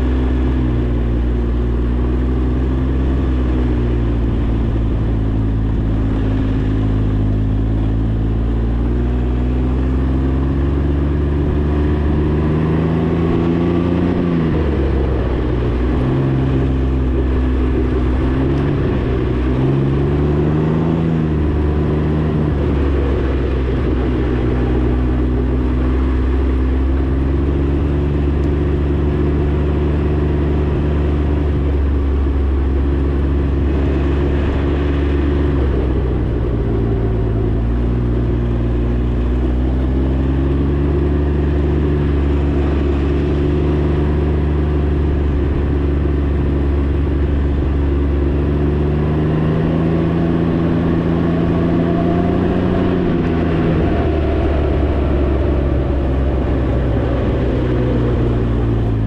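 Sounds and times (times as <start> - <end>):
three-cylinder engine running: 0.0 - 59.0.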